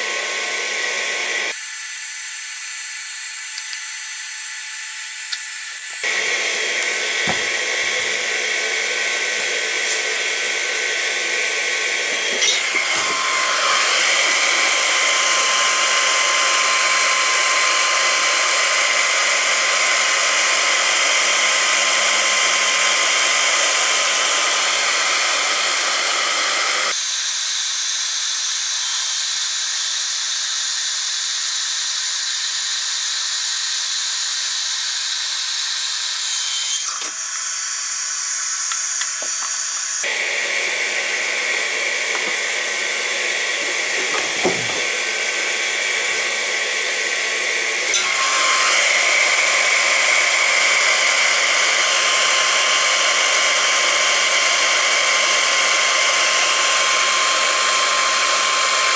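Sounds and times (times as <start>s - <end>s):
hot-air gun blowing: 0.0s - 58.9s.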